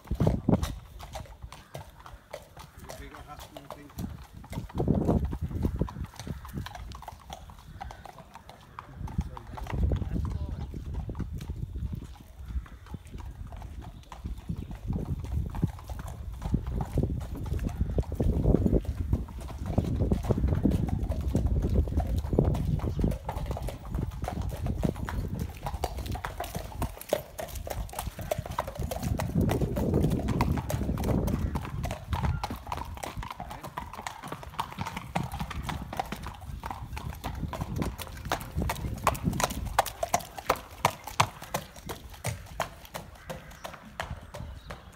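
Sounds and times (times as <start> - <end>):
horse hooves trotting on hard ground: 0.0 - 44.9.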